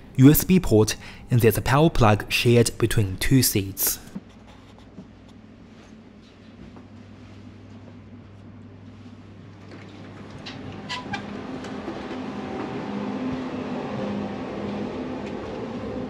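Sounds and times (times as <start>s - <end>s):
train interior hum: 2.9s - 16.0s.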